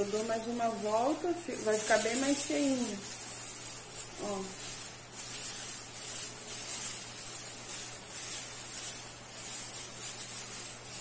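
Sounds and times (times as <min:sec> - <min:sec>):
tinsel rustling and crinkling: 0:00.0 - 0:11.0.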